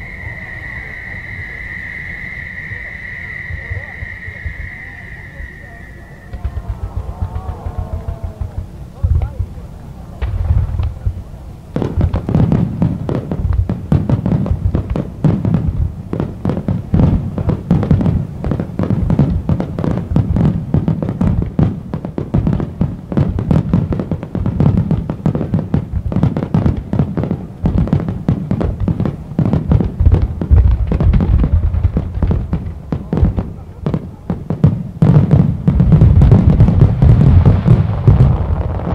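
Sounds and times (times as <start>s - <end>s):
fireworks booming and cracking: 0.0s - 38.9s.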